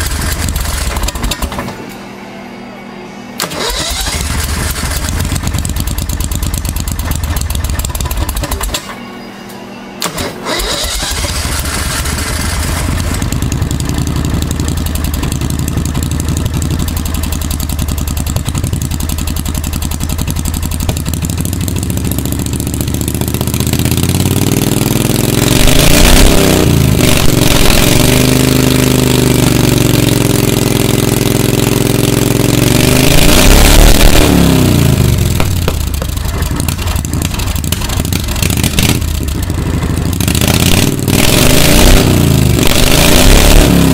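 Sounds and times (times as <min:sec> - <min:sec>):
engine running and revving: 0:00.0 - 0:01.7, 0:03.4 - 0:08.8, 0:10.1 - 0:43.9.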